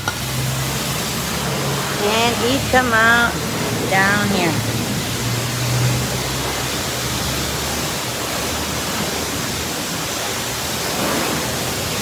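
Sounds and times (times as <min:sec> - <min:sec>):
pressure washer spraying car: 0:00.0 - 0:12.0.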